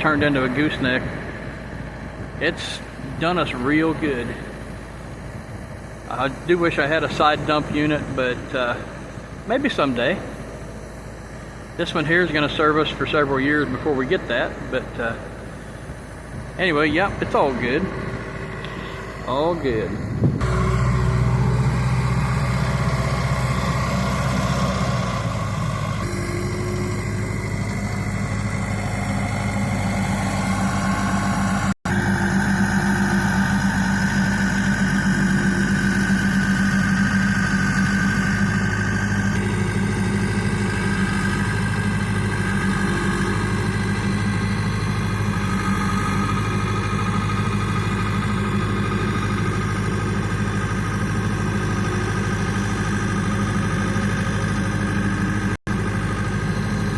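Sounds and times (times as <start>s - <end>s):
truck engine humming: 0.0s - 56.9s.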